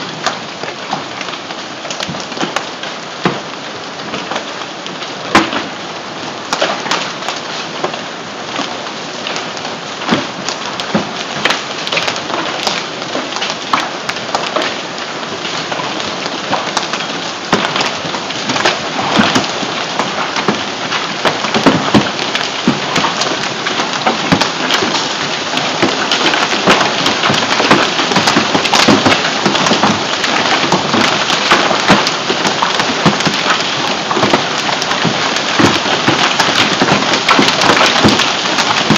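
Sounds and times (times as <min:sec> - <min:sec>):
hailstones clicking on surfaces: 0:00.0 - 0:05.8, 0:06.5 - 0:38.9
hail and rain pelting down: 0:00.0 - 0:38.9.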